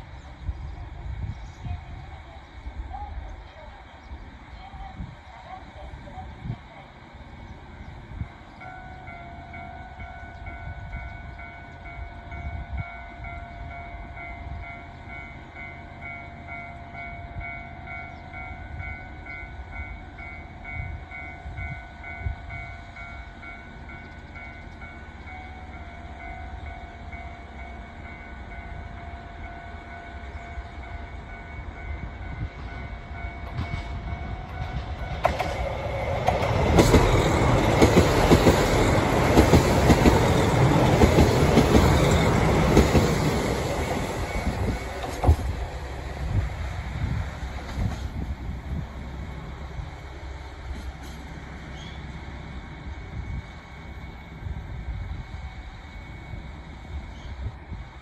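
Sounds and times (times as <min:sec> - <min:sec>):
diesel train running past: 0:00.0 - 0:58.0.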